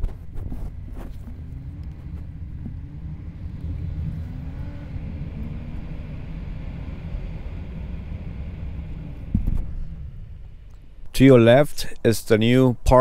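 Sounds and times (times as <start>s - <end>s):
car engine and tyre rumble: 0.0s - 12.6s.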